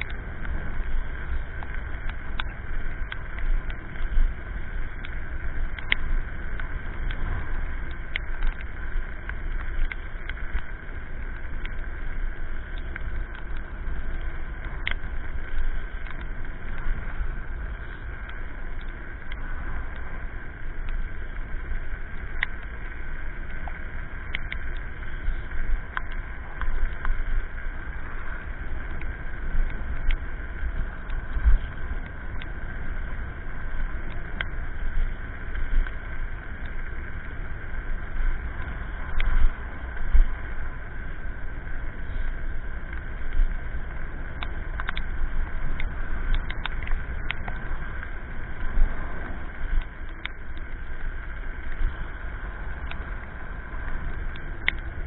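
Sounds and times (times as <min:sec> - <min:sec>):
wind and road noise rumble: 0:00.0 - 0:55.0.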